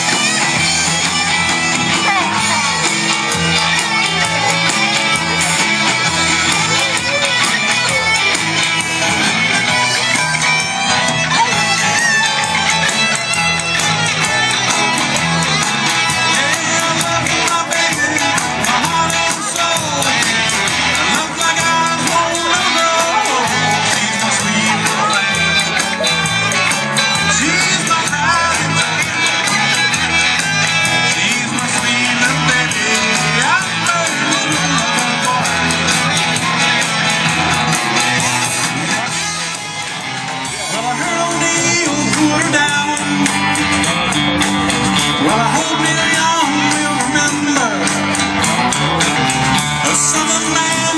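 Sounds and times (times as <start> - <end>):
electric guitars: 0.0 - 50.9
live rock band playing: 0.0 - 50.9.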